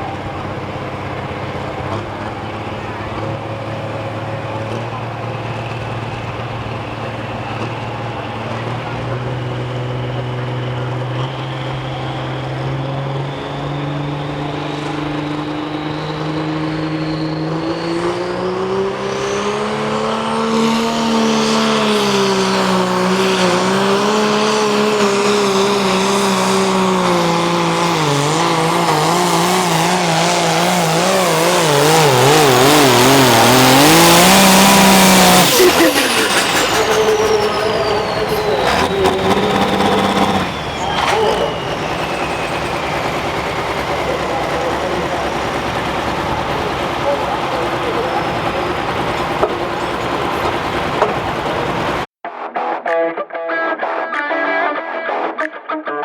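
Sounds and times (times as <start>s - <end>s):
diesel tractor engine under load: 0.0s - 52.1s
high turbo whine: 0.0s - 52.1s.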